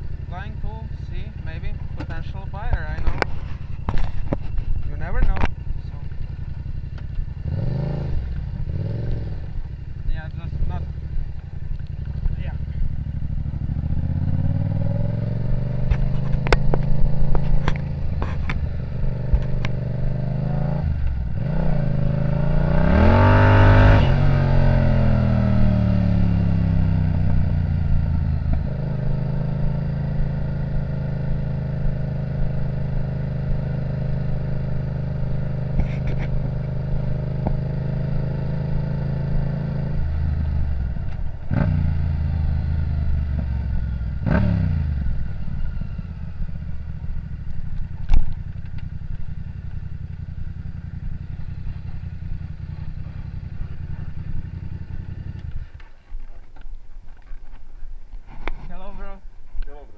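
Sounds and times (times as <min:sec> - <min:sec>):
motorcycle engine running: 0:00.0 - 0:59.8.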